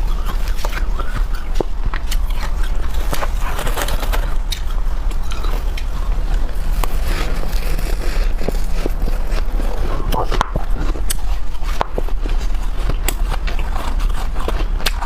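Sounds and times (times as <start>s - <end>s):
frost crunching as chewed: 0.0s - 15.0s.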